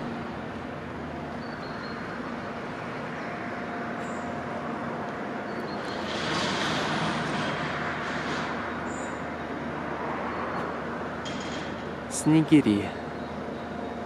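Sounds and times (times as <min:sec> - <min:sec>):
urban traffic rumble: 0:00.0 - 0:14.0.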